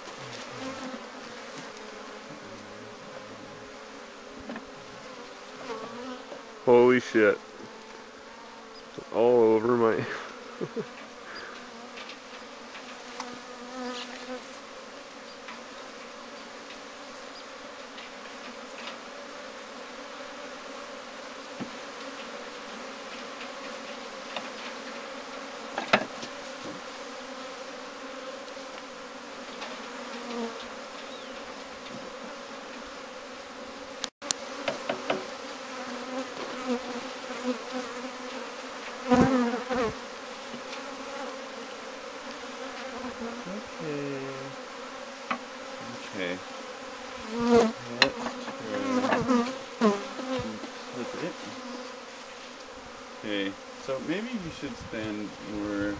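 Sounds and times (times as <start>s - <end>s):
honeybees buzzing: 0.0s - 55.9s.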